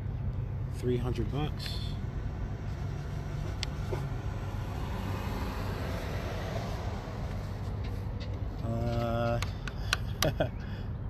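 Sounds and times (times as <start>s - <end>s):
low engine hum: 0.0s - 11.0s
road traffic noise: 0.0s - 11.0s.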